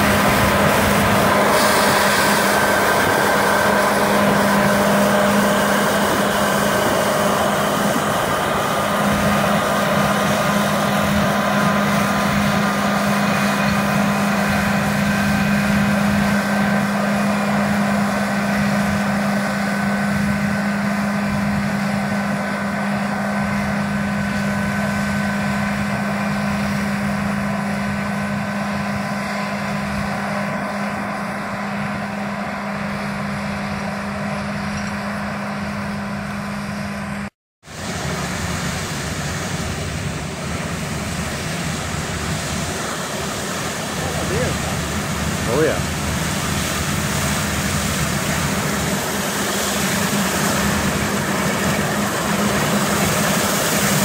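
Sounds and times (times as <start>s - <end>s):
combine harvester drone: 0.0s - 54.0s
high machinery whines: 0.0s - 54.0s.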